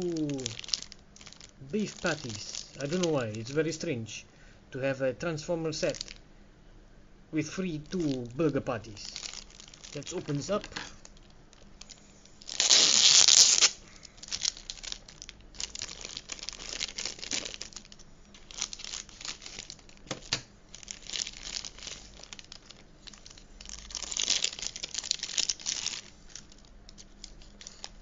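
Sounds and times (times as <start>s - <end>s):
plastic bag crinkling: 0.0s - 3.9s, 5.7s - 6.2s, 7.5s - 28.0s.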